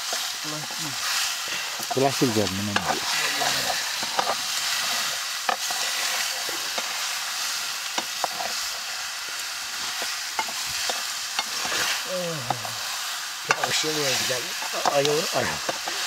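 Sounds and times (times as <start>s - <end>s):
meat sizzling: 0.0s - 16.0s.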